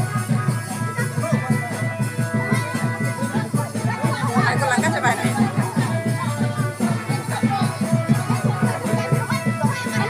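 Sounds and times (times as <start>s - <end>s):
music with fast steady beat: 0.0s - 10.0s.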